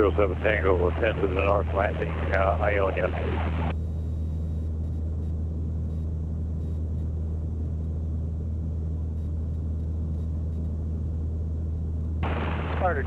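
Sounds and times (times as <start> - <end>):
small plane engine drone: 0.0 - 13.0.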